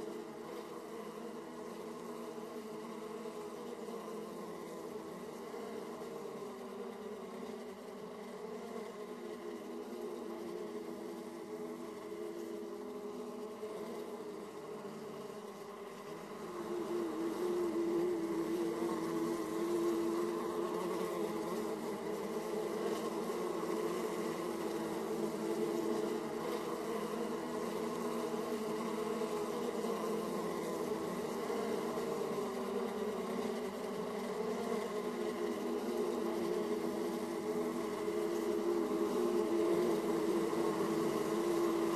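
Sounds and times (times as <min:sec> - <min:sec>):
honeybees buzzing: 0:00.0 - 0:41.9.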